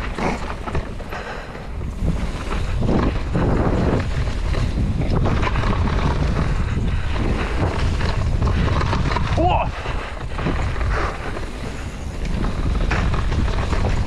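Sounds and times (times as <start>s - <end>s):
bike knocking and rattling: 0.0s - 14.0s
tyres rumbling on dirt: 0.0s - 14.0s
wind rushing over microphone: 0.0s - 14.0s.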